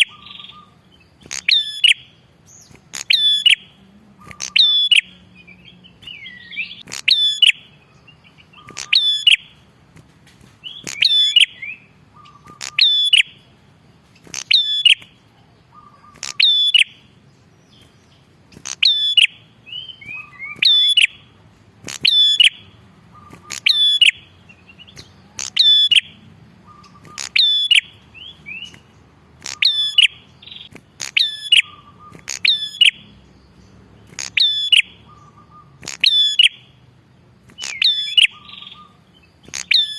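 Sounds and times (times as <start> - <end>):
bird singing loud sharp call: 0.0 - 9.6, 10.6 - 13.5, 14.2 - 36.8, 37.4 - 39.9
soft quick bird twittering: 0.0 - 9.6, 10.4 - 13.4, 14.1 - 36.8, 37.4 - 39.9.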